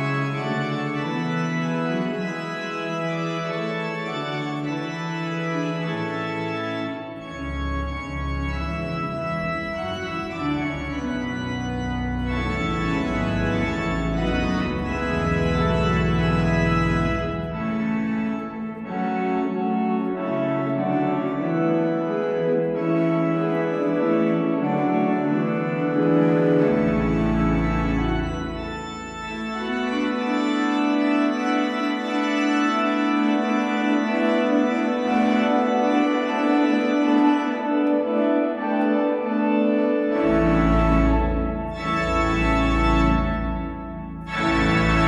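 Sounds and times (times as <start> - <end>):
deep organ pedal bass notes: 0.0 - 45.0
pipe organ playing full chords: 0.0 - 45.0.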